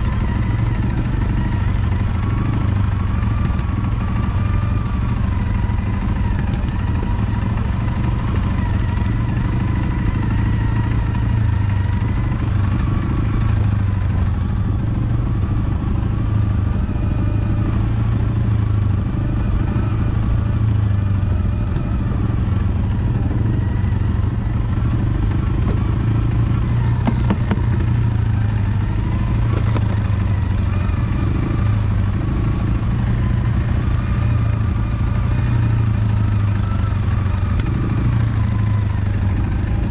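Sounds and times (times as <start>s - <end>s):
short high squeaks: 0.0s - 18.2s, 21.8s - 39.9s
quad bike engine running: 0.0s - 39.9s.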